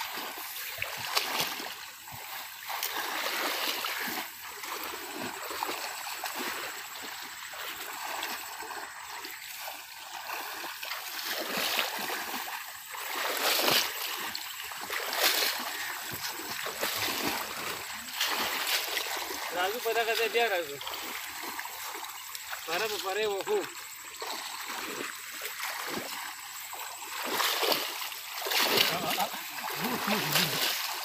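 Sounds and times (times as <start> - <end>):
splashing in shallow muddy water: 0.0 - 31.0.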